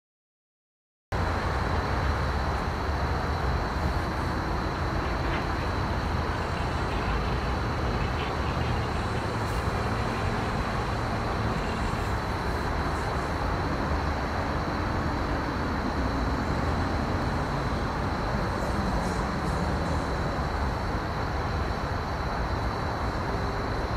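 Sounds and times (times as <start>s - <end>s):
distant highway traffic drone: 1.1s - 23.9s.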